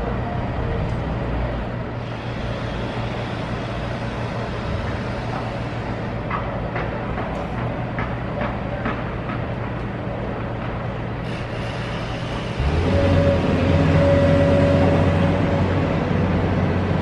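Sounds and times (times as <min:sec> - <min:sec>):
excavator diesel engine drone: 0:00.0 - 0:17.0.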